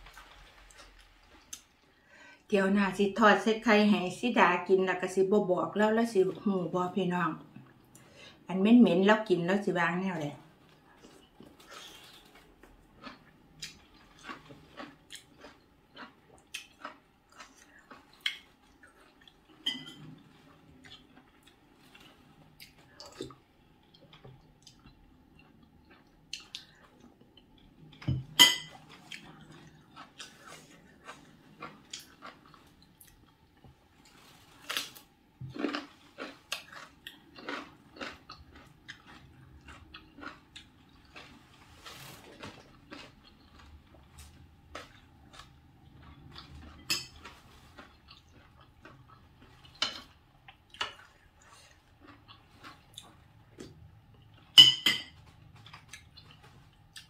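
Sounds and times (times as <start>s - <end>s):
person chewing: 0.0s - 1.9s, 10.7s - 57.0s.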